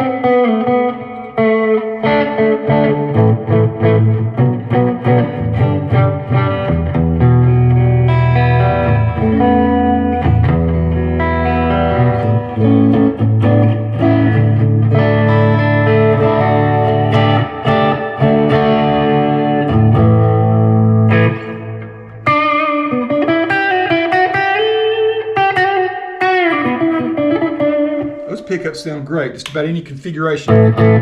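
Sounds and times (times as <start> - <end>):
electric guitar chords and lead: 0.0 - 29.3, 30.4 - 31.0.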